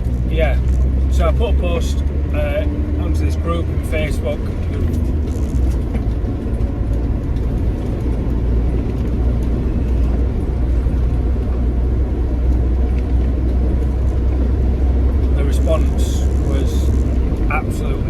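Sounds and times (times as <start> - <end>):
van engine and road rumble: 0.0 - 18.0.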